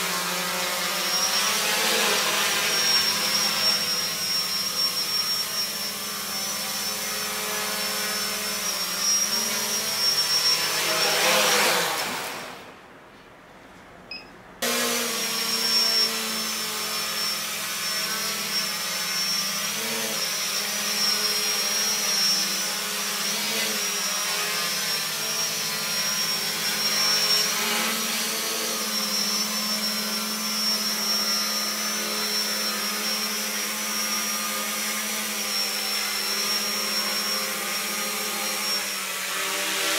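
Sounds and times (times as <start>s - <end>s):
quadcopter motors whirring: 0.0s - 12.6s, 14.6s - 39.9s.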